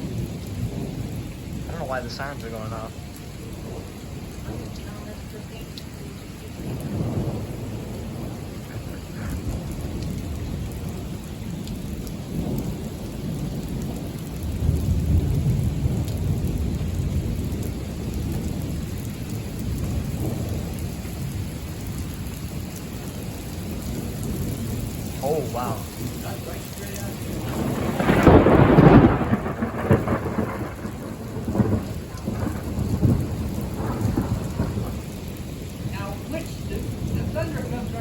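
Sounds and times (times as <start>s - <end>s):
steady rain: 0.0s - 38.0s
thunder rumbling: 0.0s - 38.0s.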